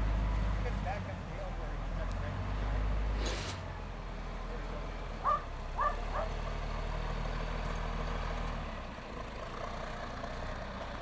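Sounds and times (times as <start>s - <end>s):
wheel loader diesel engine: 0.0s - 11.0s.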